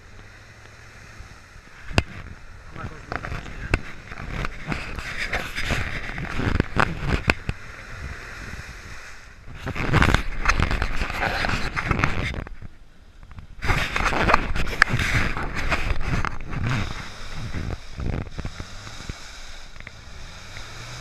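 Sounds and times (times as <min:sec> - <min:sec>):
vehicle engine pulling: 0:00.0 - 0:12.6, 0:13.6 - 0:21.0.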